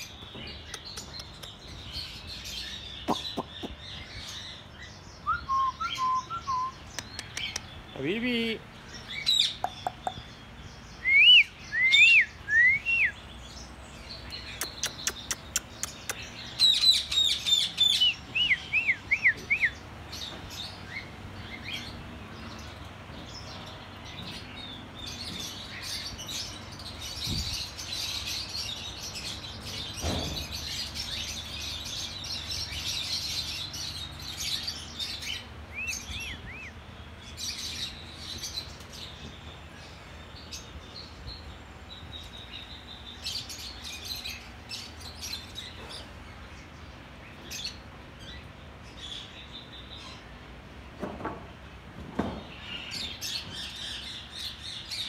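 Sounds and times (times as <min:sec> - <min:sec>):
caged birds chirping: 0:00.0 - 0:55.0.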